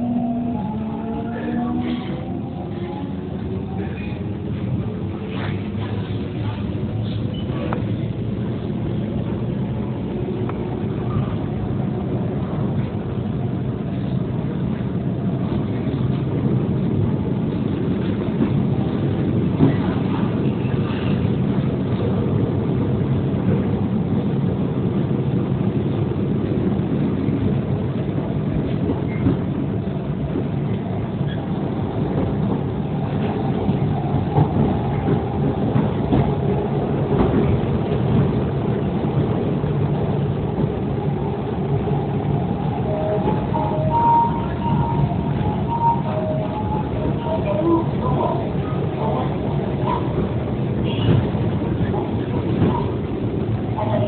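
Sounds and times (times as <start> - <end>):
train rumble and hum: 0.0 - 54.0.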